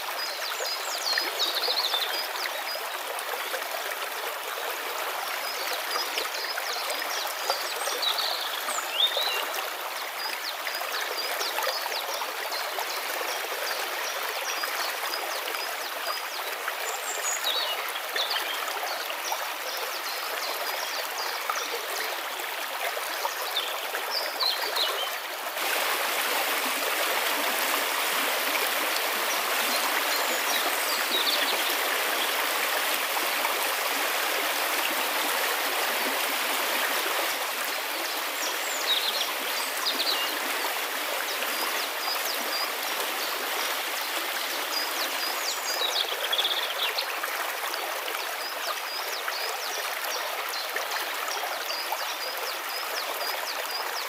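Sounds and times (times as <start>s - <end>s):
creek rushing over stones: 0.0s - 54.0s.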